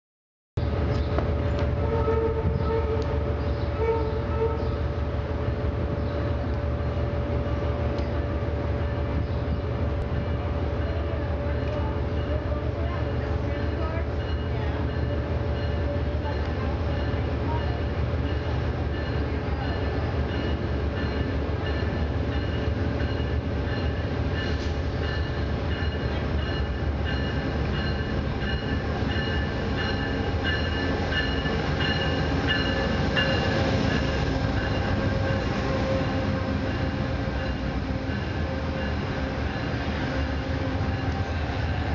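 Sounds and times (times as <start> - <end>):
diesel locomotive rumbling past: 0.6 - 41.9.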